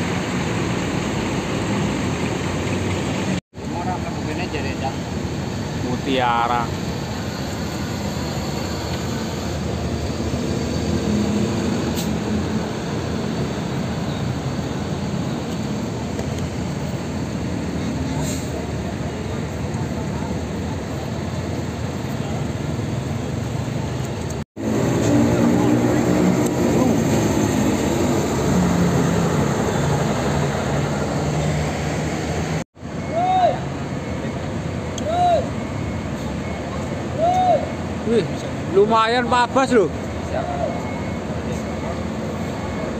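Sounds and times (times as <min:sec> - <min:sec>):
bus diesel engine driving past: 0:00.0 - 0:24.0, 0:24.6 - 0:38.9
rumble of other buses: 0:00.0 - 0:42.9.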